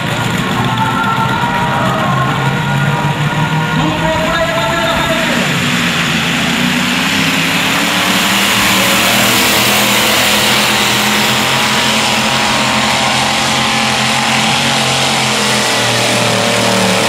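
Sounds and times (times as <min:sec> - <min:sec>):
tractor engine running loud: 0:00.0 - 0:17.0.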